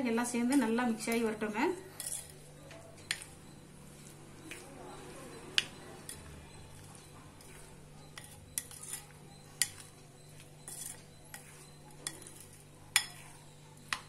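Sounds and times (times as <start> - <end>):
spatula stirring fruit: 0.0 - 14.0
spatula clinking on glass bowl: 0.4 - 14.0.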